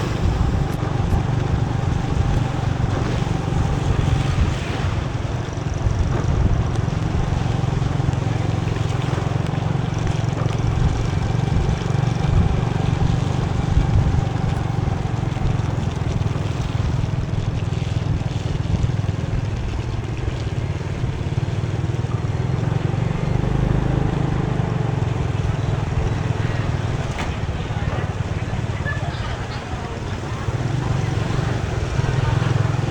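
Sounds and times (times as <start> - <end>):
motorbike engine hum: 0.0 - 32.9
rain: 0.0 - 32.9
tyres hissing on wet road: 0.0 - 32.9
wind: 0.0 - 32.9.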